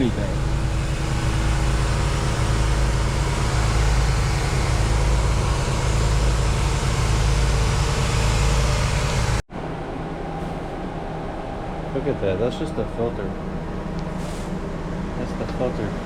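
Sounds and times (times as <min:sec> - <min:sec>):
vacuum running: 0:00.0 - 0:14.0.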